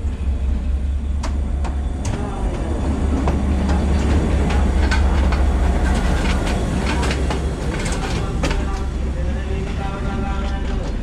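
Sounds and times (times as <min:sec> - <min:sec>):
train rumbling: 0:00.0 - 0:11.0
wheels clicking over rail joints: 0:01.1 - 0:11.0.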